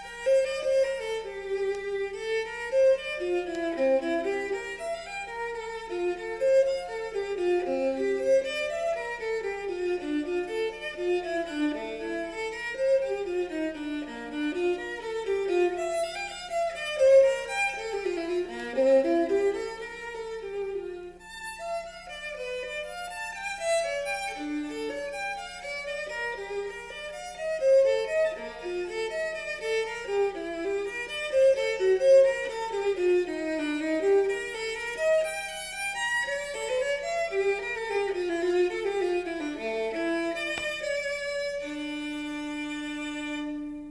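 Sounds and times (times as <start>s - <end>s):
violin music through loudspeaker: 0.0s - 43.9s.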